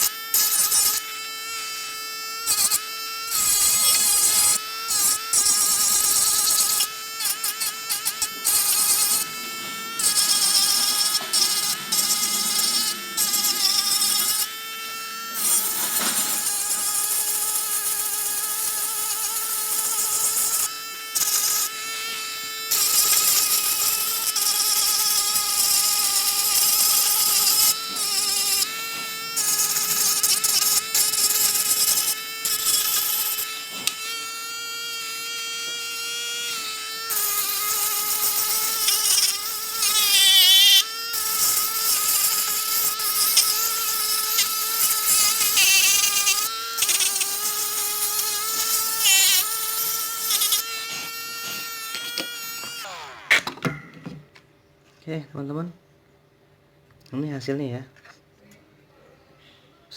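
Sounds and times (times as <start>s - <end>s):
sanding machine whining: 0.0s - 53.3s
sanding bit grinding putty: 0.0s - 53.4s.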